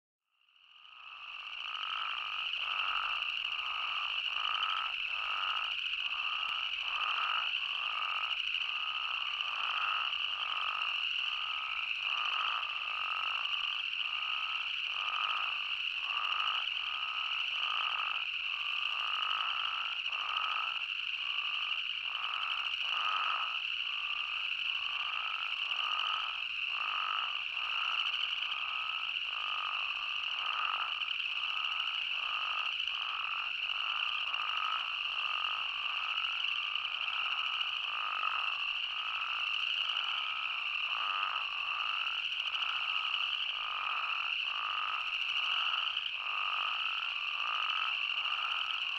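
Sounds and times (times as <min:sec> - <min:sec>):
toads calling: 0:00.8 - 0:48.9.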